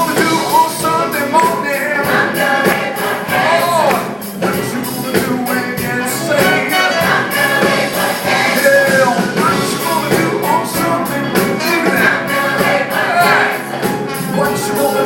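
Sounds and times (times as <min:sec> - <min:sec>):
choir singing: 0:00.0 - 0:15.0
rock band playing: 0:00.0 - 0:15.0.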